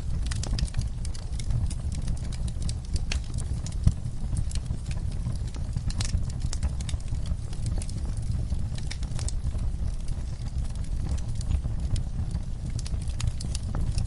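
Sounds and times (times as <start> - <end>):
fire popping and snapping: 0.0 - 14.0
low rumble of flames: 0.0 - 14.0.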